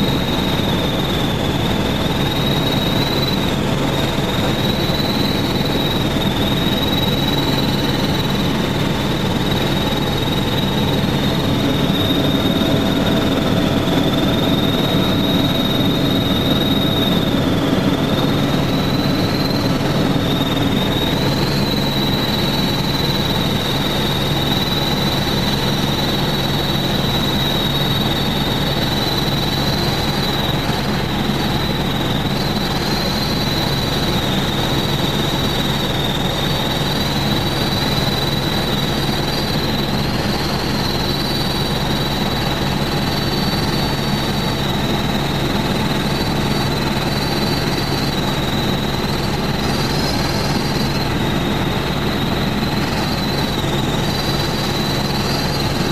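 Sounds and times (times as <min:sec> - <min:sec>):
helicopter engine and rotor: 0:00.0 - 0:55.9
high-pitched whine: 0:00.0 - 0:55.9.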